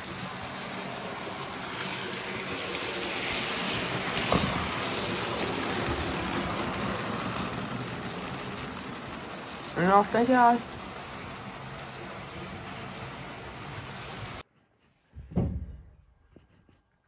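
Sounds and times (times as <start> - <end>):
model trains rumbling on track: 0.0 - 14.4.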